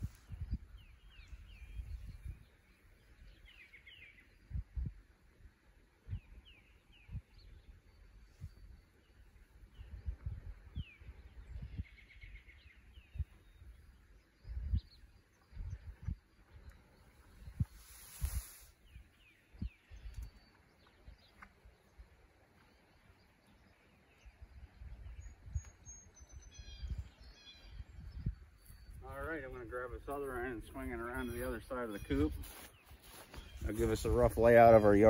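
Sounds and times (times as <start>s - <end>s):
small birds chirping: 0.0s - 5.0s, 5.8s - 35.0s.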